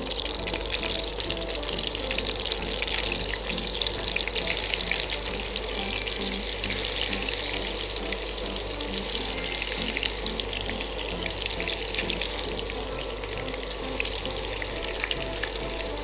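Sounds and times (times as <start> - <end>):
chicken sizzling in a pan: 0.0 - 16.0
soft background music: 0.0 - 16.0.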